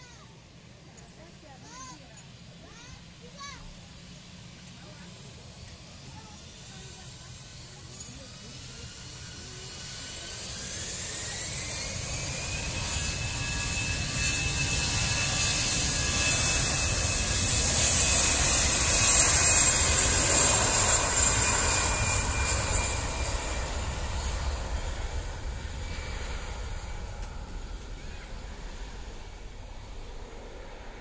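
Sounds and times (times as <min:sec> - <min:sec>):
jet engines at takeoff: 0:00.0 - 0:31.0.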